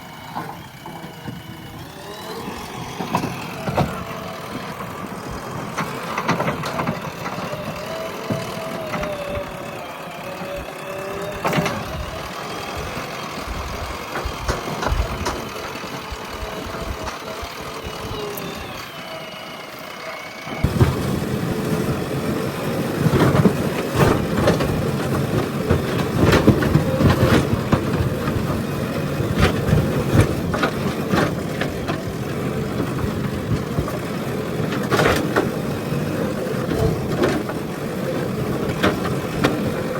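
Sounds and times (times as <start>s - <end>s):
backhoe diesel engine under load: 0.0s - 39.9s
hydraulic whine: 0.0s - 39.9s.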